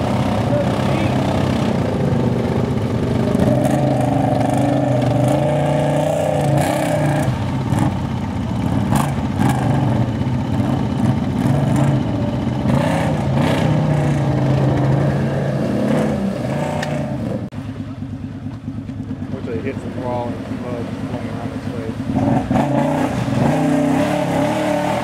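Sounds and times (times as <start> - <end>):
atv engines revving: 0.0 - 25.0.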